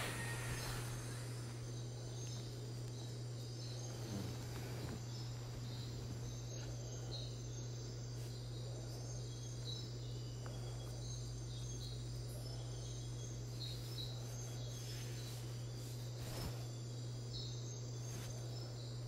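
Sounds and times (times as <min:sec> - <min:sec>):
insects trilling: 0:00.0 - 0:19.0
steady low hum: 0:00.0 - 0:19.0.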